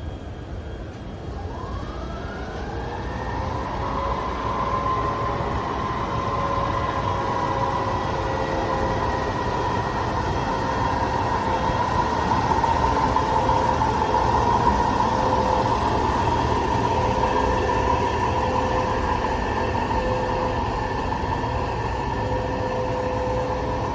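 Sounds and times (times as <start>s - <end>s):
electric train whine: 0.0s - 23.9s
wheels rumbling on rail: 0.0s - 23.9s.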